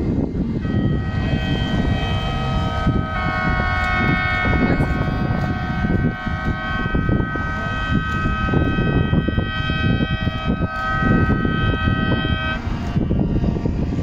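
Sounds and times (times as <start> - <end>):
wind buffeting microphone: 0.0 - 14.0
chord of high tones: 0.6 - 14.0.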